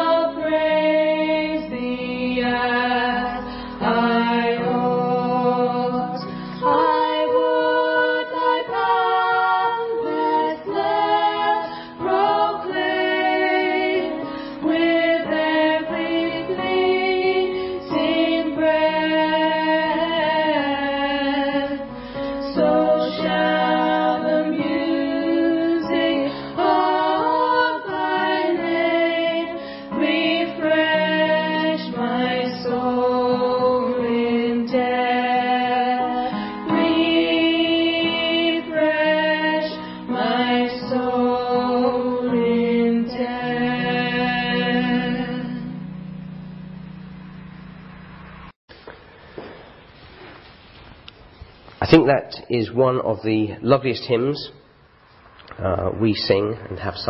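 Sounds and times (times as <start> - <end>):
voices singing a slow hymn: 0.0 - 46.6.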